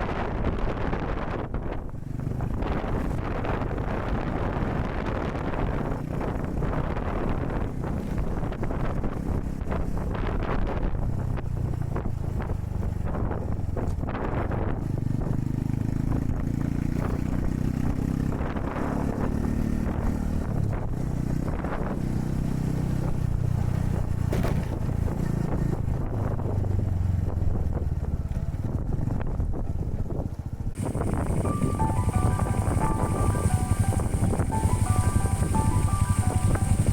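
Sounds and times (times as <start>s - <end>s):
motorcycle engine running: 0.0s - 36.9s
wind buffeting microphone: 0.0s - 36.9s.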